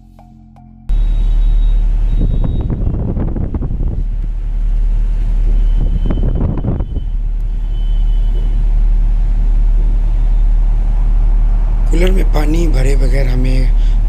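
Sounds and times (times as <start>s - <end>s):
air cooler fan rumbling: 1.0s - 14.0s
airflow on microphone: 1.0s - 14.0s.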